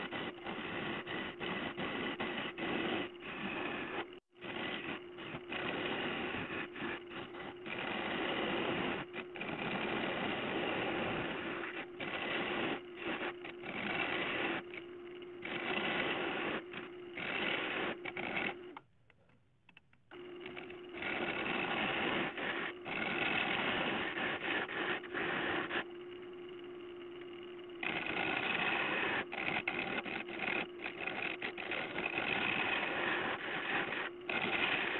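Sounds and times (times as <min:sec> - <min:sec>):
turning tool scraping wood: 0:00.0 - 0:18.8, 0:20.1 - 0:34.9
wood lathe motor hum: 0:00.0 - 0:18.9, 0:19.7 - 0:34.9.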